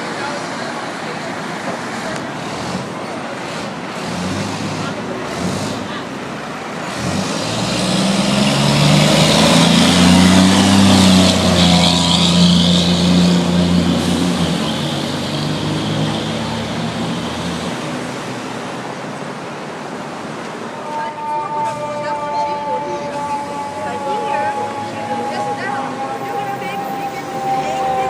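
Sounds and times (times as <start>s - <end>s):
fire truck diesel engine: 0.0s - 28.0s
street traffic: 0.0s - 28.0s.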